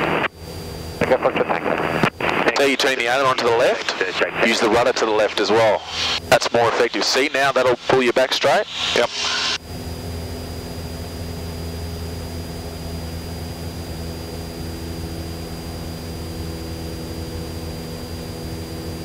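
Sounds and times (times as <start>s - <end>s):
aircraft engine and propeller droning: 0.0s - 19.0s
high-pitched whine: 0.0s - 19.0s.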